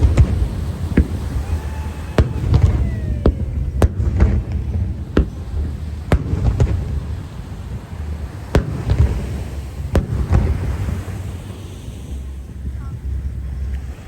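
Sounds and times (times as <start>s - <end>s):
fireworks bursting with sharp bangs: 0.0s - 12.3s
low rumble: 0.0s - 14.0s.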